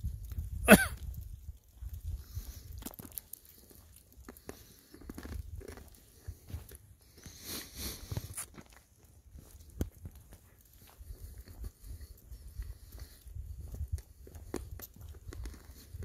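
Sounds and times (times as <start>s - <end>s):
crunching footsteps: 0.3s - 16.0s.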